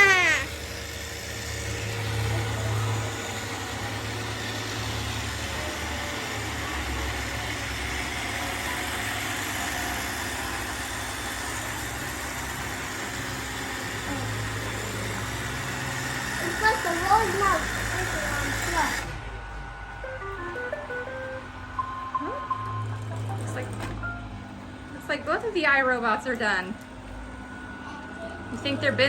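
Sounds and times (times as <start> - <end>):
robot vacuums humming: 0.0 - 29.0.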